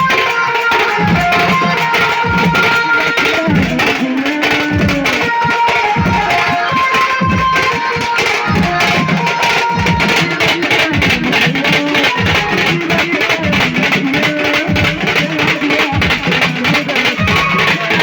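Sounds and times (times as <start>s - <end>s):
instrumental melody line: 0.0s - 18.0s
steady drum beat: 0.0s - 18.0s.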